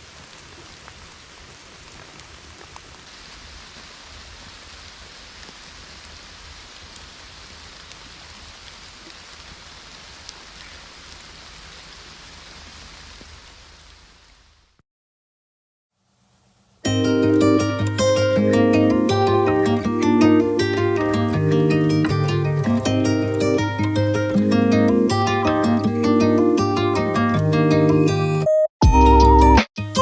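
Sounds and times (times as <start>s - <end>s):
steady rainfall: 0.0s - 14.8s, 16.1s - 28.1s.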